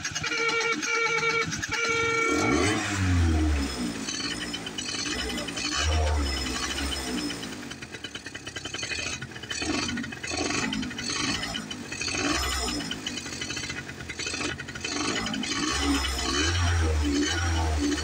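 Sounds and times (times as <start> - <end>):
motorcycle engine ticking and clatter: 0.0 - 18.0.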